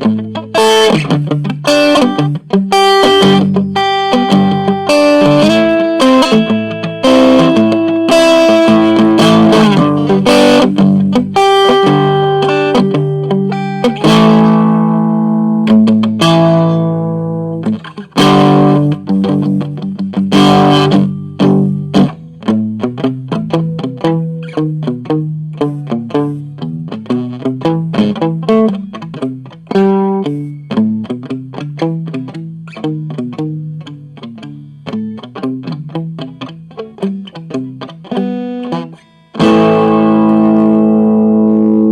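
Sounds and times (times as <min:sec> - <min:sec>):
electric guitar reggae playing: 0:00.0 - 0:41.9.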